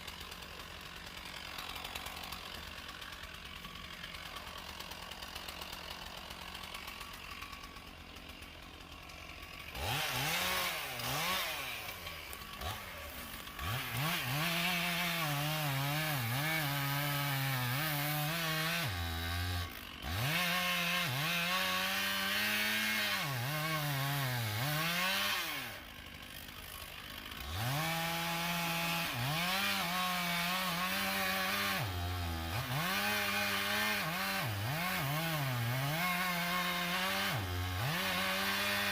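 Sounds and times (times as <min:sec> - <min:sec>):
chainsaw cutting wood: 0:00.0 - 0:38.9
chainsaw idling: 0:00.0 - 0:38.9.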